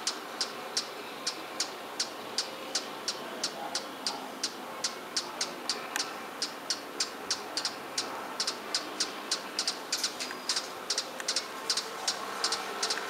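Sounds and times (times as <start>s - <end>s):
hummingbird chipping: 0.0s - 13.0s.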